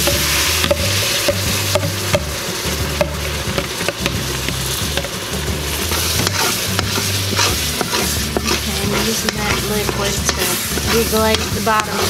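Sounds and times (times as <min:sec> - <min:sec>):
vegetables sizzling in hot roux: 0:00.0 - 0:12.0.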